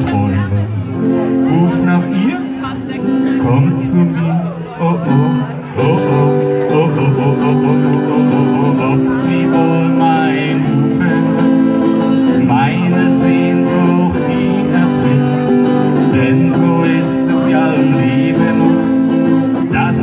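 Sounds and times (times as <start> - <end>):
acoustic guitars playing country song: 0.0 - 20.0.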